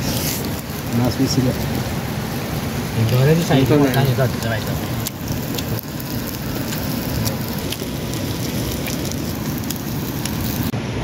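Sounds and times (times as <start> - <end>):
chicken sizzling on hot stone: 0.0 - 10.7.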